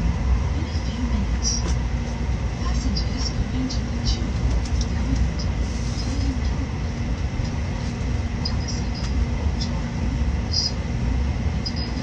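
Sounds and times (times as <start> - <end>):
faint constant whine: 0.0 - 12.0
train cabin low rumble: 0.0 - 12.0.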